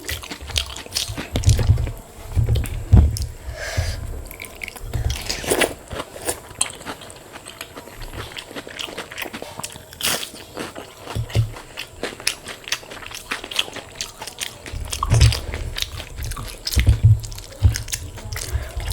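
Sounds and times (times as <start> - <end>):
chewing crunchy food: 0.0 - 18.9.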